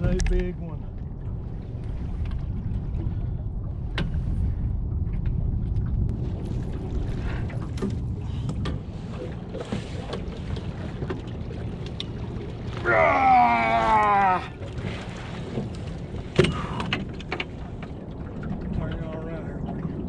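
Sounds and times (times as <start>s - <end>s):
wind and water rumble: 0.0s - 20.0s.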